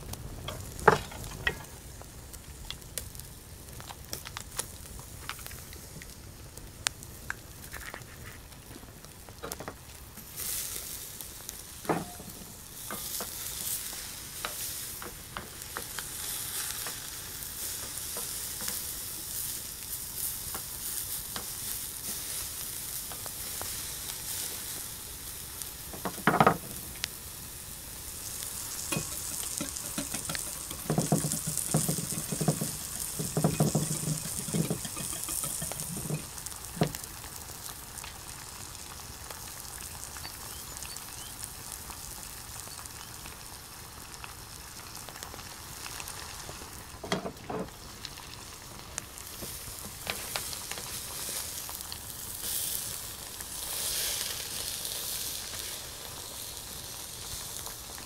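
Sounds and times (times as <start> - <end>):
steaks sizzling on grill: 0.0 - 58.0.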